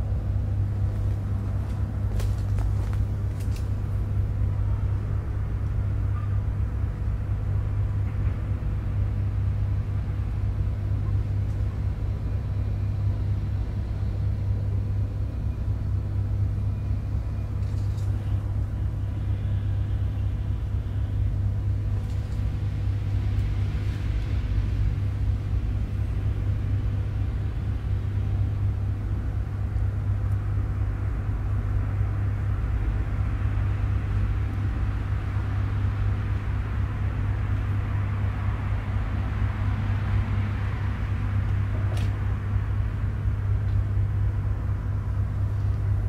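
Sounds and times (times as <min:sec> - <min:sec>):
faint steady hum: 0:00.0 - 0:46.0
low background rumble: 0:00.0 - 0:46.0.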